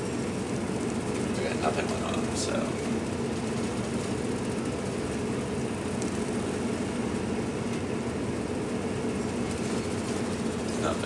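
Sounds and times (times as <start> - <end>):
ship machinery drone: 0.0 - 11.0.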